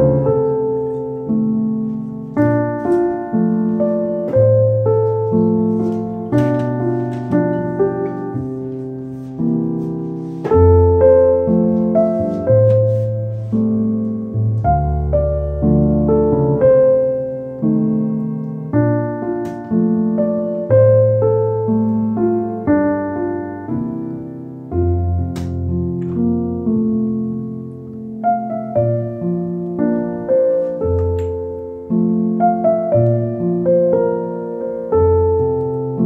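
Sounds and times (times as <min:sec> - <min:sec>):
soft solo piano music: 0:00.0 - 0:36.0.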